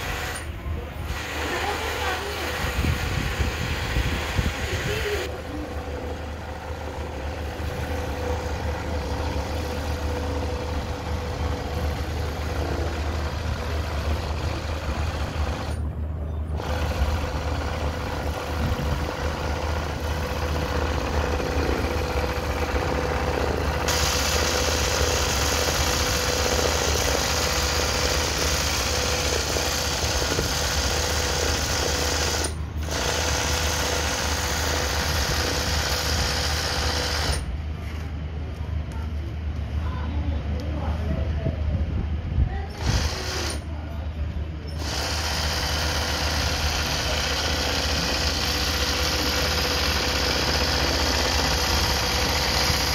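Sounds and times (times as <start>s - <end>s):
sewing machine running: 0.0s - 15.9s, 16.5s - 37.5s, 42.7s - 43.7s, 44.8s - 52.9s.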